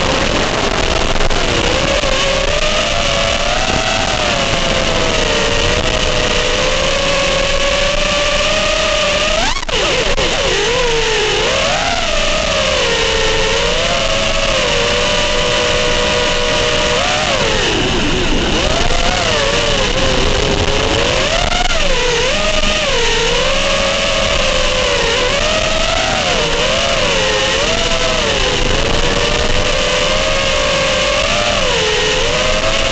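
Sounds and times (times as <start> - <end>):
drone motors and propellers whining: 0.0 - 32.9.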